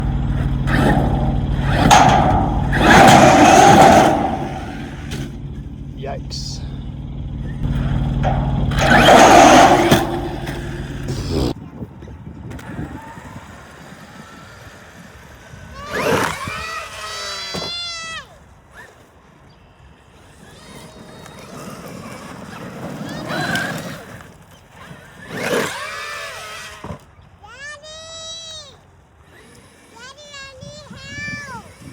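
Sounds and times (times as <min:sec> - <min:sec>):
rush of motor and tyres: 0:00.0 - 0:27.2
rc truck running: 0:00.0 - 0:31.9.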